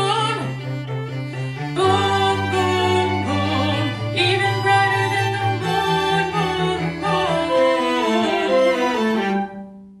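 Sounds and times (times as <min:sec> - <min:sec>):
string quartet playing: 0:00.0 - 0:09.8.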